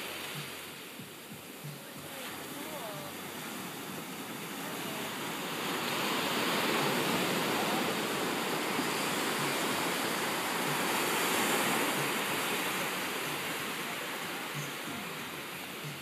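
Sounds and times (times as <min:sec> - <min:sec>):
ocean surf breaking on shore: 0:00.0 - 0:16.0.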